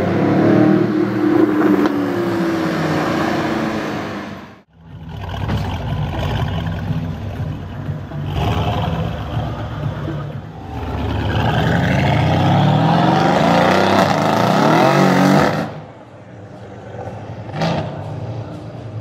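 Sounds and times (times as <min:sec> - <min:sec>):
car engine accelerating hard: 0:00.0 - 0:15.8.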